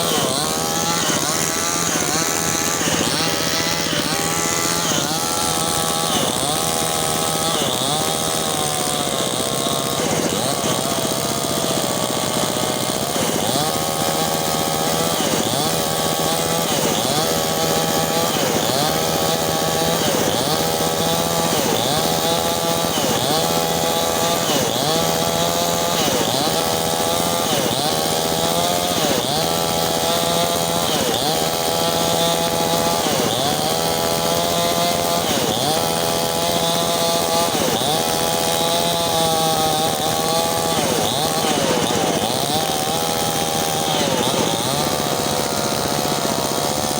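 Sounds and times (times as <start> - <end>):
mini chainsaw cutting wood: 0.0 - 46.9.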